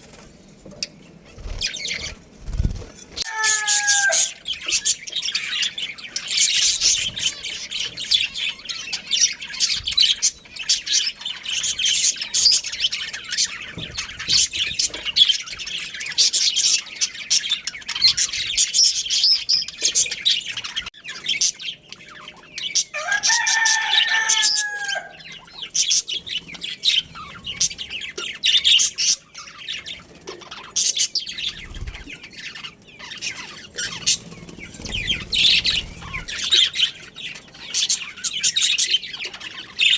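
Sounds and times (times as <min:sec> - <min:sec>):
budgerigars chattering: 0:03.2 - 0:39.9.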